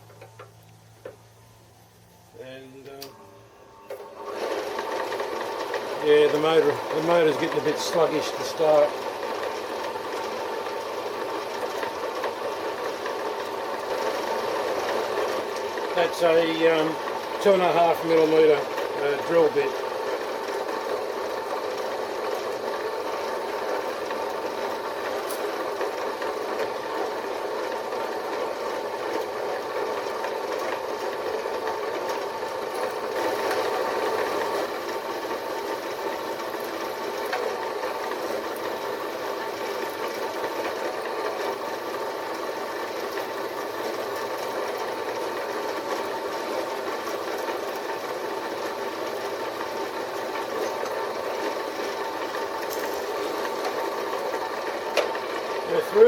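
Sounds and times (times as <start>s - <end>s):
drill press humming: 0.0s - 56.0s.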